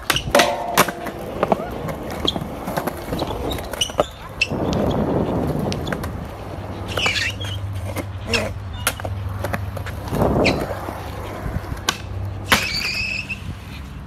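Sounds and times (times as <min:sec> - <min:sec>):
skateboard clicks and knocks: 0:00.0 - 0:13.9
skateboard wheels rolling on concrete: 0:00.0 - 0:14.0.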